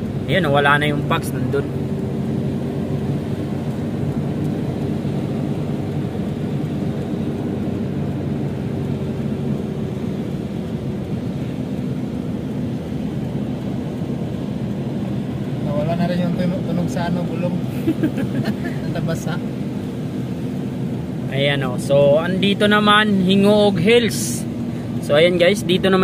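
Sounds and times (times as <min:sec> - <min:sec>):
car tyres on wet road: 0:00.0 - 0:26.0
faint engine hum: 0:00.0 - 0:26.0.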